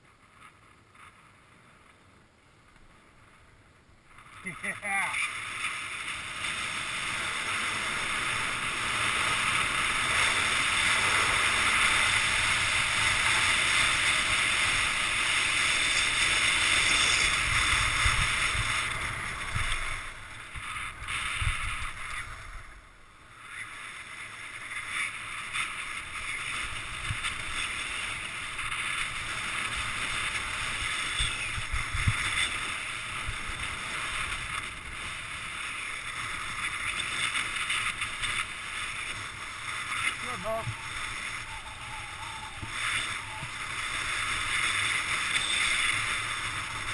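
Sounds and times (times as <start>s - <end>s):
skis carving over snow: 0.0s - 46.9s
wind on the microphone: 4.1s - 46.9s.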